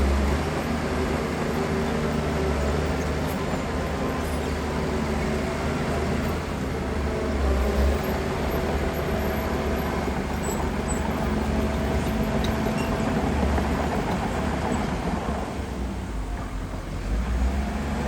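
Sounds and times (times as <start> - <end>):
diesel machinery engine rumble: 0.0 - 18.0.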